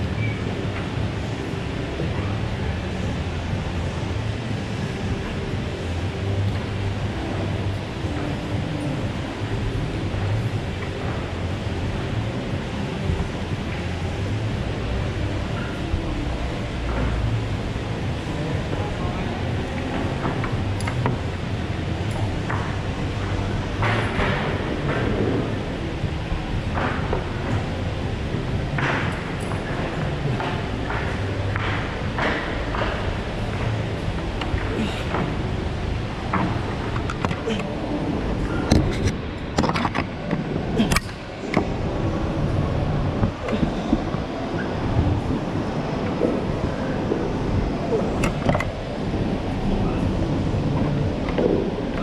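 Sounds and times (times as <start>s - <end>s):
indoor background hum: 0.0s - 52.0s.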